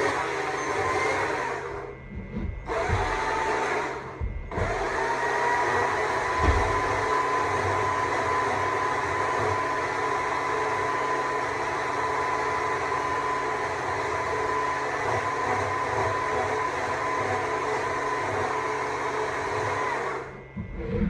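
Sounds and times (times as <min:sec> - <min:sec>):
battery chainsaw cutting wood: 0:02.7 - 0:20.3.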